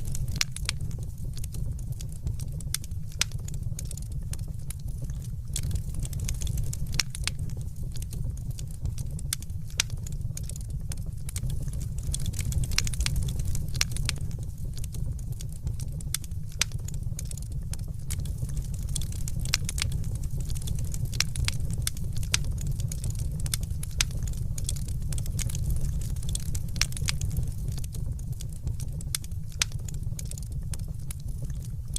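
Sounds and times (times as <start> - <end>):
fire crackling and popping: 0.0 - 31.9
low fire rumble: 0.0 - 31.9.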